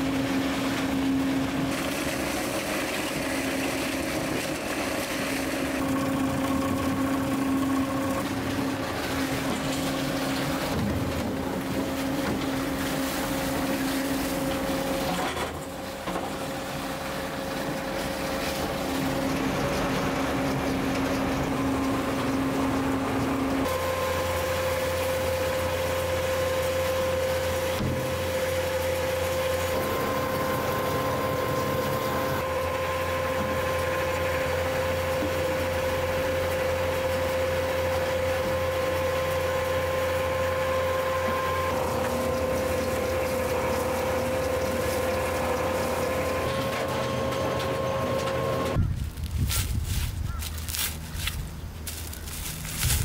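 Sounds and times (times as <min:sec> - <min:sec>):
machine whining: 0:00.0 - 0:48.9.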